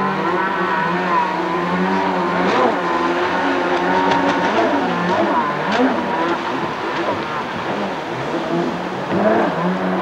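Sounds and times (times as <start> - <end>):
jet ski engines whining: 0.0 - 10.0.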